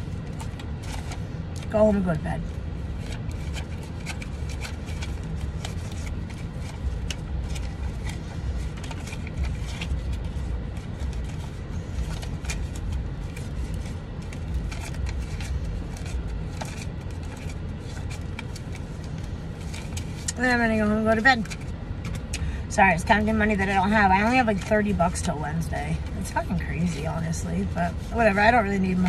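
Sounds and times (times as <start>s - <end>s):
banknotes rustling and flicking: 0.0s - 2.0s, 2.8s - 29.0s.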